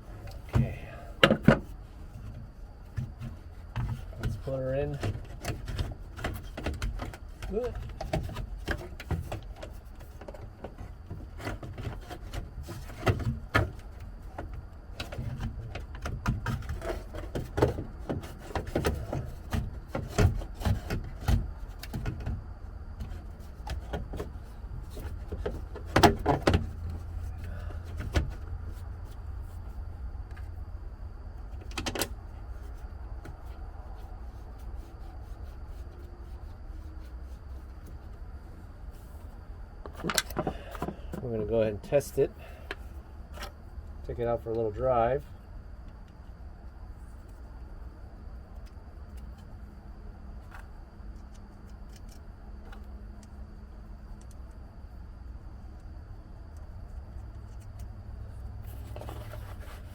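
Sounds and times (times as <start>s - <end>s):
low steady rumble: 0.0s - 59.9s.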